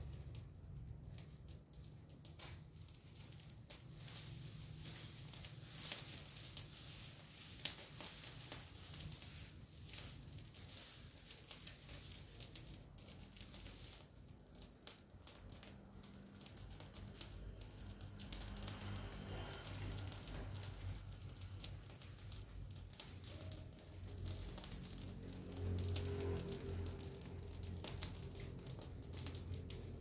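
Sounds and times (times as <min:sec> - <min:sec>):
sharp snaps of fire: 0:00.0 - 0:30.0
leaves and twigs crackling: 0:02.2 - 0:30.0.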